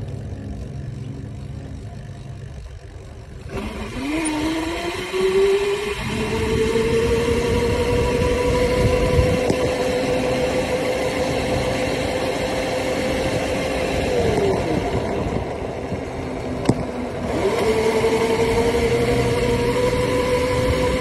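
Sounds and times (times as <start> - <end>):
dirt bike motor whining: 0.0 - 21.0
road noise: 0.0 - 21.0
wind: 0.0 - 21.0.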